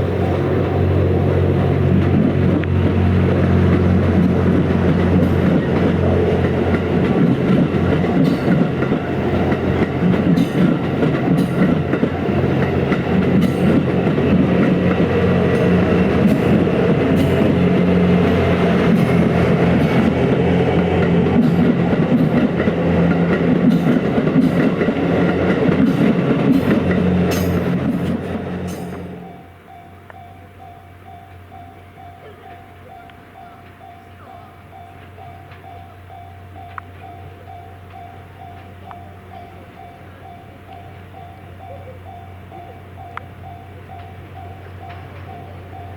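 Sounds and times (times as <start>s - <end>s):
diesel train engine hum: 0.0s - 45.9s
train wheels clicking: 0.0s - 45.9s.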